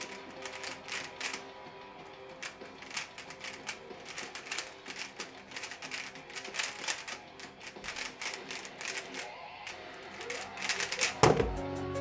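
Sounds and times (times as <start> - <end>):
speed cube clicking: 0.0 - 1.5, 2.3 - 11.2.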